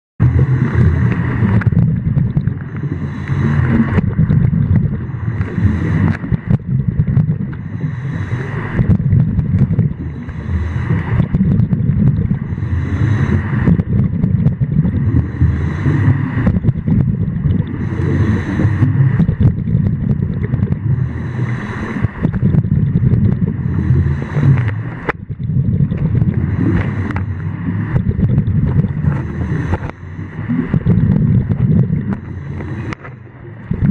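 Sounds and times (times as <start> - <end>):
underwater water rumble: 0.2 - 33.9.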